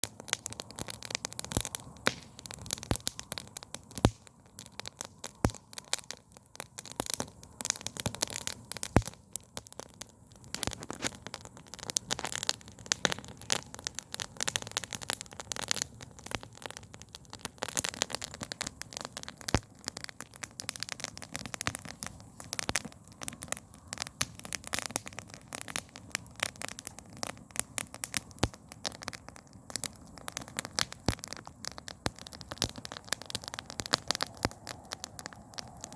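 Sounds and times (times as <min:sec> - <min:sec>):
campfire crackling: 0:00.0 - 0:35.9
faint fire hiss: 0:00.0 - 0:35.9.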